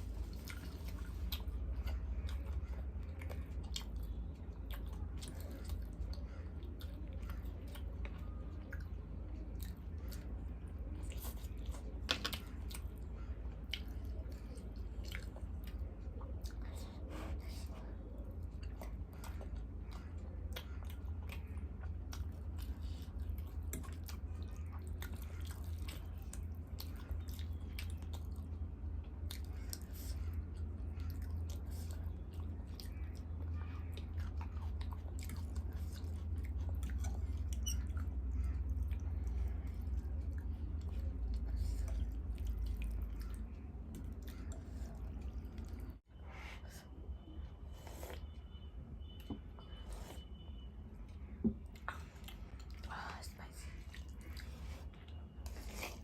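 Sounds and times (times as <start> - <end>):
close chewing and eating: 0.0 - 56.0.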